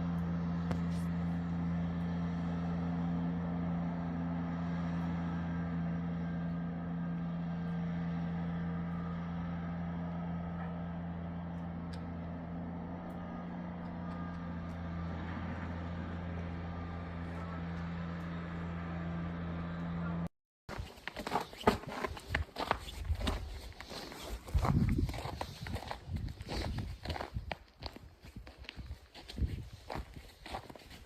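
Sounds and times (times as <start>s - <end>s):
vehicle engine humming: 0.0s - 20.3s, 21.0s - 27.5s.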